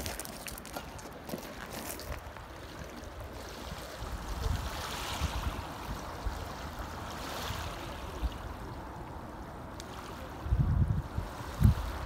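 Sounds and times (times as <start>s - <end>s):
wavelets lapping on shingle: 0.0s - 12.0s.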